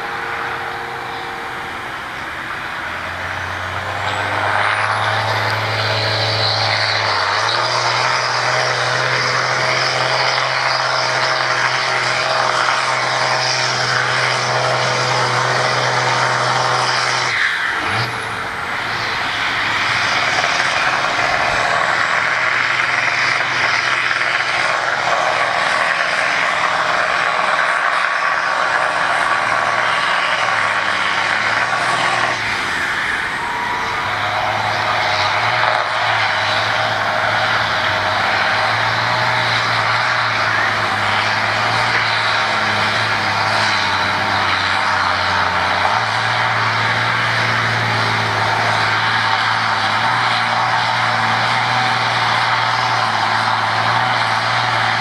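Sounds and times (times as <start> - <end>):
diesel tractor engines at full throttle: 0.0 - 55.0.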